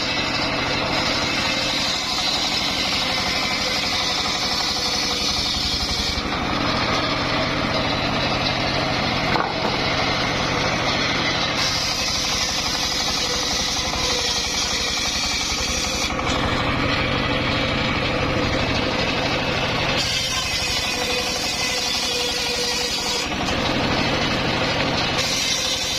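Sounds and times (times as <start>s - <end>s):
sawmill engine throbbing: 0.0s - 25.9s.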